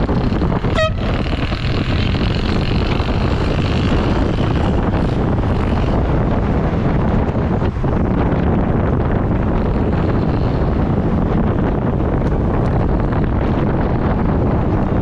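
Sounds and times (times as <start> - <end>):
road traffic: 0.0 - 15.0
wind rush on microphone: 0.0 - 15.0.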